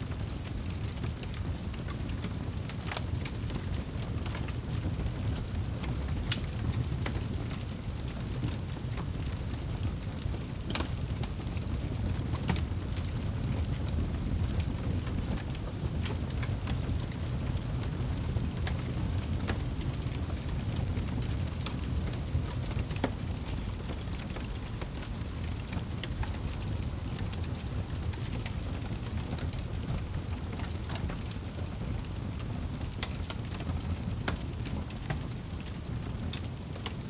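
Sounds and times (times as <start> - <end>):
firewood crackling and popping: 0.0 - 37.0
flames rumbling: 0.0 - 37.0.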